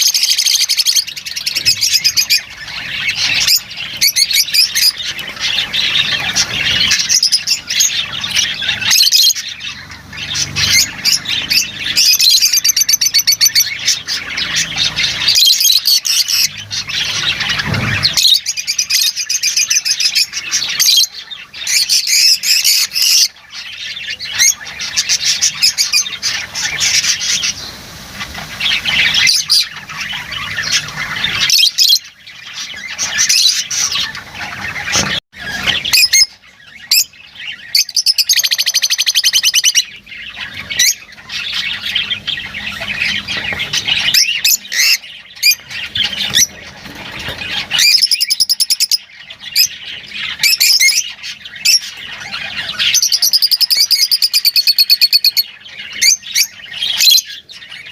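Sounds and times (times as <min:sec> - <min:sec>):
lovebirds squawking and chirping: 0:00.0 - 0:57.9.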